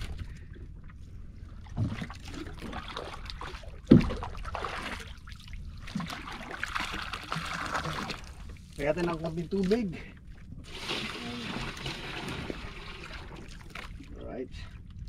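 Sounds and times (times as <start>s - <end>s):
water trickling and sloshing: 0.0s - 15.0s.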